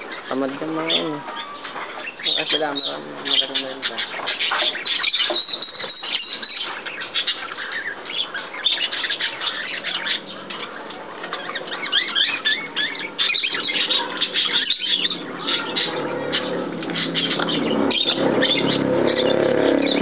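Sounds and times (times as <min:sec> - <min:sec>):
flock of birds chirping and squawking: 0:00.0 - 0:20.0.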